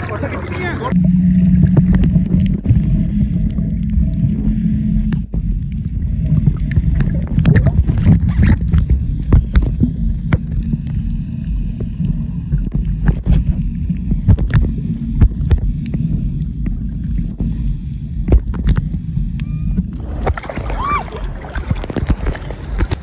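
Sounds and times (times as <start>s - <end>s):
motorboat engine rumble: 0.0s - 23.0s
water slapping against hull: 0.0s - 23.0s.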